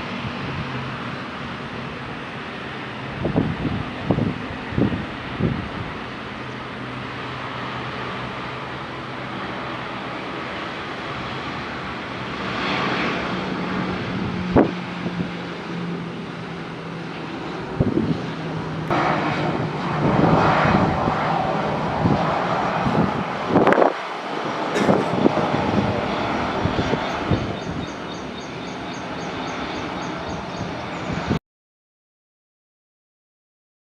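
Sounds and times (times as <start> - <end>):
jet engines humming: 0.0 - 31.4.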